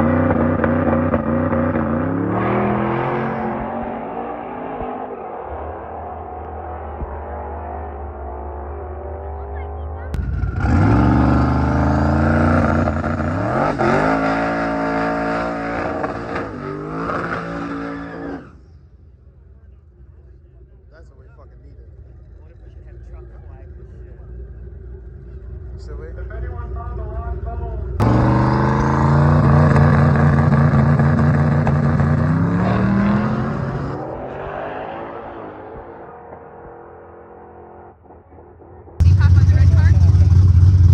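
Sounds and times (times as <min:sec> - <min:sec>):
drag car engine at full throttle: 0:00.0 - 0:18.7, 0:21.0 - 0:40.9.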